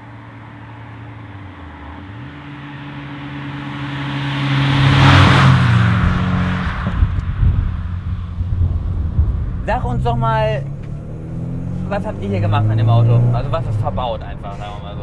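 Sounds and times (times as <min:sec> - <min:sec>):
road noise: 0:00.0 - 0:15.0
car driving past: 0:00.4 - 0:15.0.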